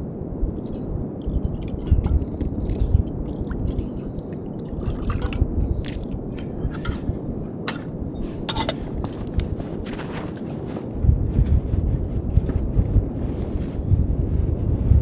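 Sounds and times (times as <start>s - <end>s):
strong wind rumbling: 0.0s - 15.0s.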